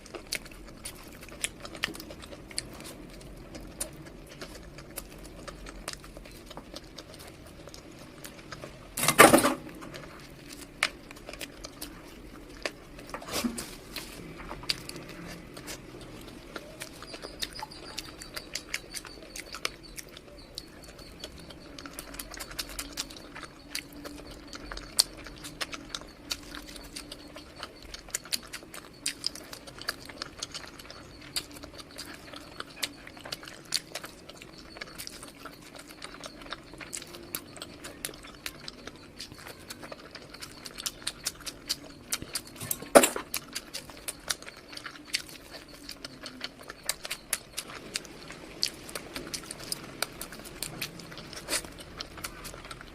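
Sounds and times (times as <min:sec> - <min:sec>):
wet mouth chewing clicks: 0:00.0 - 0:09.0, 0:09.6 - 0:52.9.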